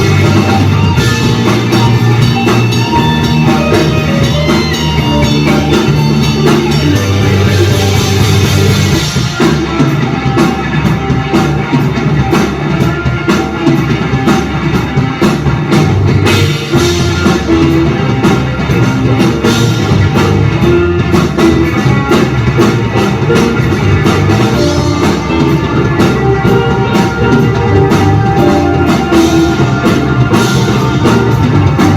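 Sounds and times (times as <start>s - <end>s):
drum kit steady beat: 0.0s - 31.9s
live rock band playing: 0.0s - 31.9s.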